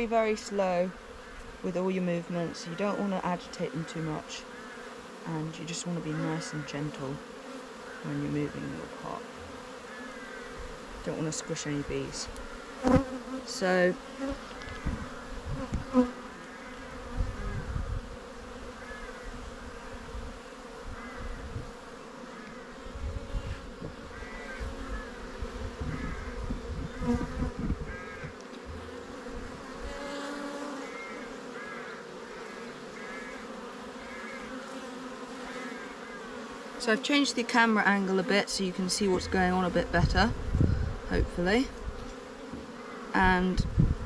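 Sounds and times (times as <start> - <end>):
bee colony humming: 0.0 - 44.0
single bee buzzing past: 0.0 - 44.0.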